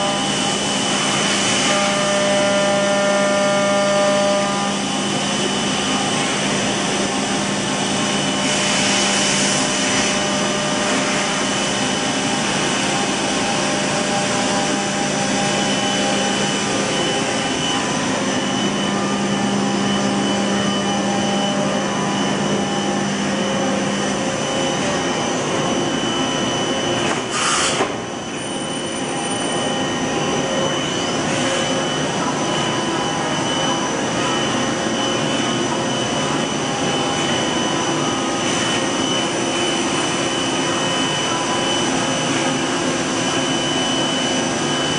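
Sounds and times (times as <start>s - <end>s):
industrial machinery hum and whine: 0.0s - 44.9s.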